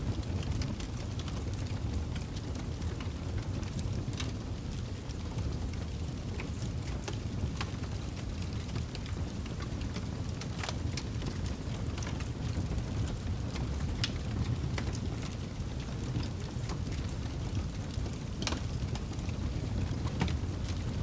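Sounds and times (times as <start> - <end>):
campfire flames rumbling: 0.0 - 21.0
wood crackling and popping: 0.1 - 21.0.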